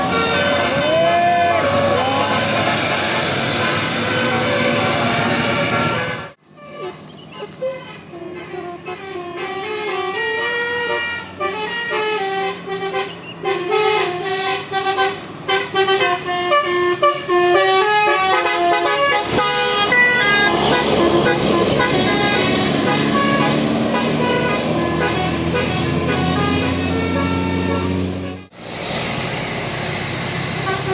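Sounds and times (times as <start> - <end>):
bus musical horn tune: 0.0 - 28.5, 30.6 - 30.9
bus engine and road noise: 0.0 - 30.9.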